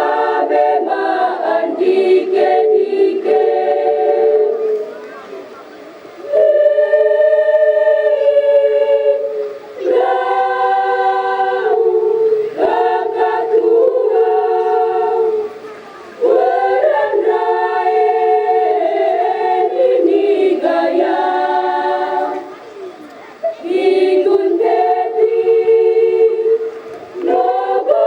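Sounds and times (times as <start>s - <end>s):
choir singing chords in harmony: 0.0s - 5.5s, 6.2s - 22.6s, 23.6s - 28.0s.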